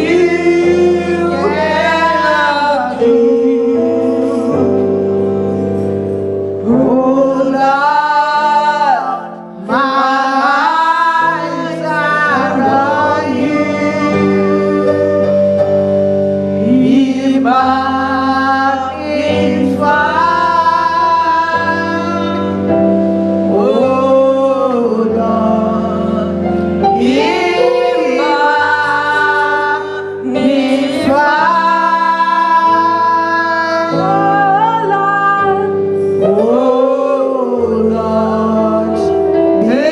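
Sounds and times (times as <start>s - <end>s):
choir singing gospel: 0.0s - 39.9s
instrumental chords: 0.0s - 39.9s.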